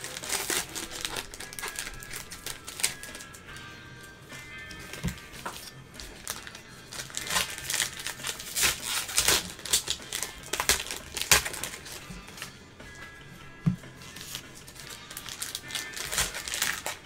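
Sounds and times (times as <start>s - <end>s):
card wrappers crinkling: 0.0s - 3.4s, 4.8s - 12.5s, 14.0s - 17.0s
background music: 0.0s - 17.0s.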